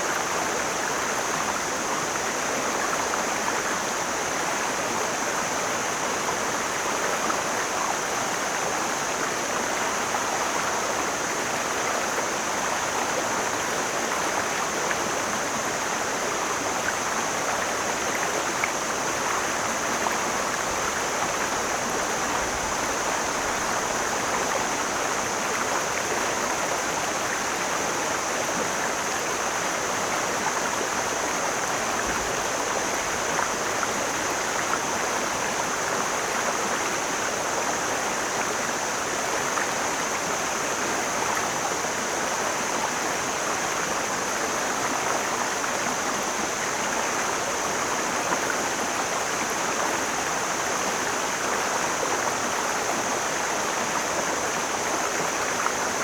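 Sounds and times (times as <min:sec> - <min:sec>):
steady high-pitched hiss: 0:00.0 - 0:56.0
stream rushing over rocks: 0:00.0 - 0:56.0.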